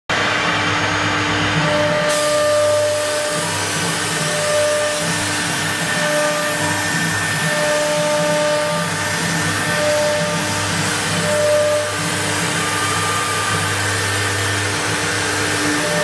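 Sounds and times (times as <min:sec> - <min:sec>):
machine whining tones: 0:00.1 - 0:16.0
wood router whirring: 0:00.3 - 0:16.0.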